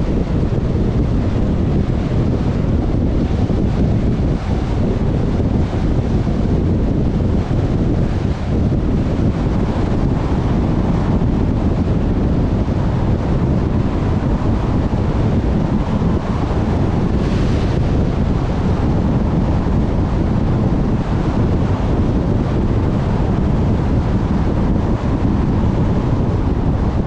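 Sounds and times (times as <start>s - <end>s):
car road and wind noise: 0.0s - 27.0s.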